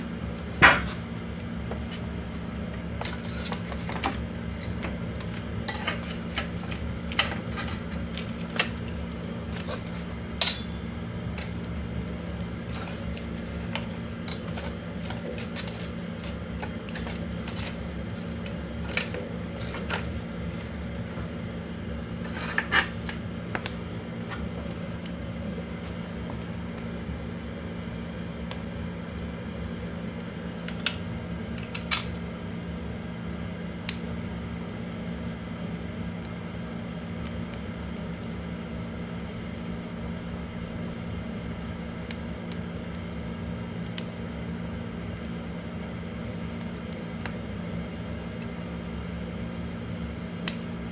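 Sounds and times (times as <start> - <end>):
firewood crackling and popping: 0.0 - 50.9
steady low hum: 0.0 - 50.9.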